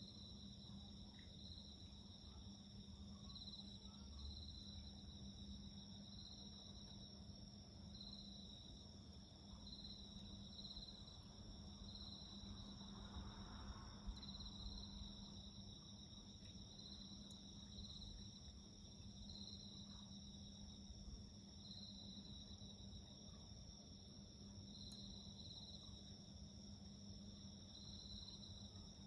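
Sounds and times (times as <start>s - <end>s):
faint crickets trilling: 0.0s - 29.0s.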